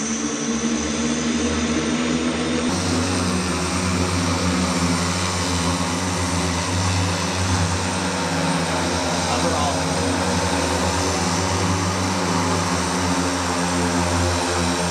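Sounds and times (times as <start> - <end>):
multirotor aircraft droning: 0.0 - 14.9.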